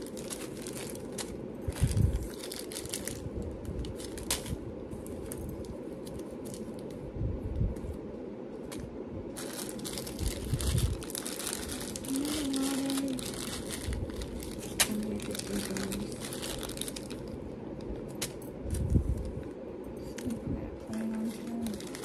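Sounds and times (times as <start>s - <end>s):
plastic packaging crinkling: 0.0s - 7.0s, 8.7s - 19.4s, 20.0s - 22.0s.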